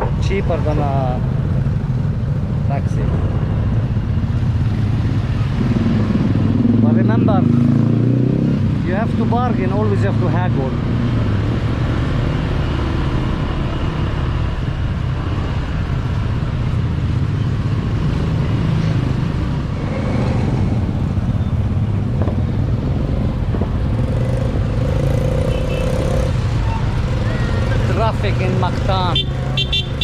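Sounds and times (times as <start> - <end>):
surrounding traffic: 0.0 - 30.0
wind and road noise: 0.0 - 30.0.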